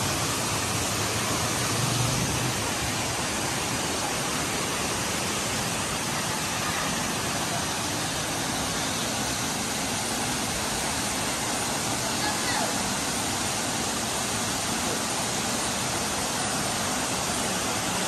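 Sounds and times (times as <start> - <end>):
waterfall and rapids rushing: 0.0 - 18.0.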